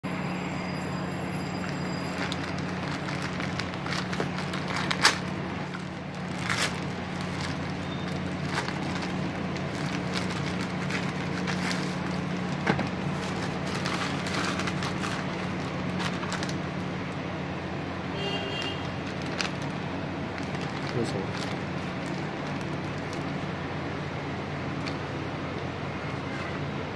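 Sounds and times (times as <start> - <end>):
plastic bag crinkling: 1.6 - 17.2, 18.6 - 23.9, 24.6 - 25.7.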